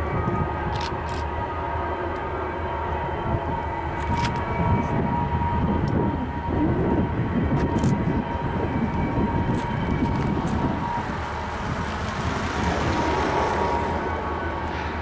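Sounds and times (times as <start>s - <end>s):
wind buffeting microphone: 0.0s - 1.5s, 3.0s - 15.0s.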